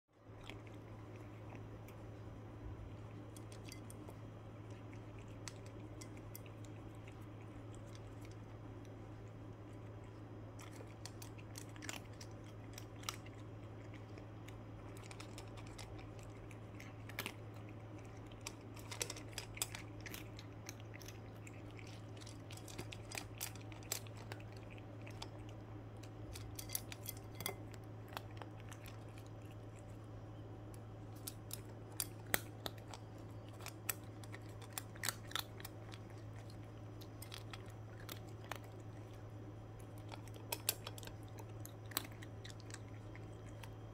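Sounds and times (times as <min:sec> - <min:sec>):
steady low hum: 0:00.1 - 0:43.9
cat crunching dry kibble: 0:00.2 - 0:43.9.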